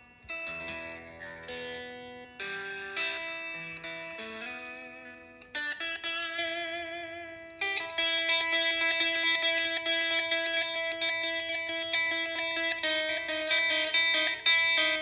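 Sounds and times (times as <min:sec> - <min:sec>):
clean electric guitar: 0:00.0 - 0:15.0.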